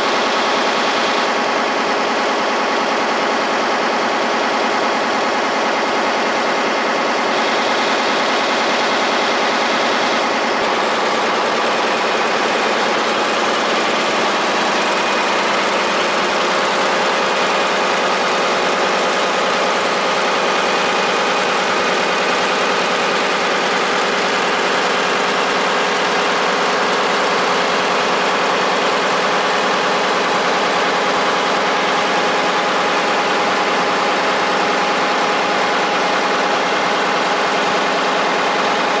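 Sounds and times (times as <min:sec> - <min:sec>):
machine hums and whines: 0:00.0 - 0:39.0
printing press mechanical din: 0:00.0 - 0:39.0.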